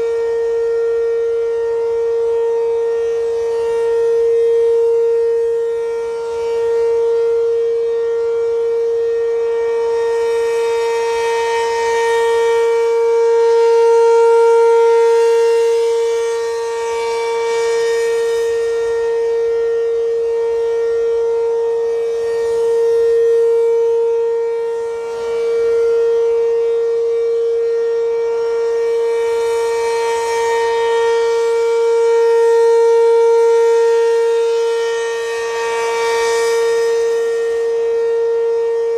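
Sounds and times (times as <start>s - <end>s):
siren steady tone: 0.0s - 38.9s.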